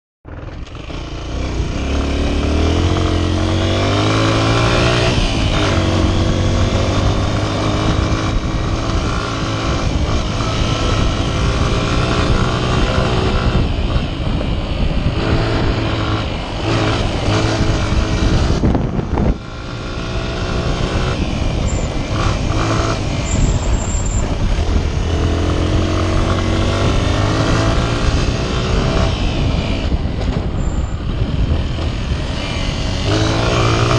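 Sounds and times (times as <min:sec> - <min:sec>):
motorcycle engine revving: 0:00.3 - 0:33.9.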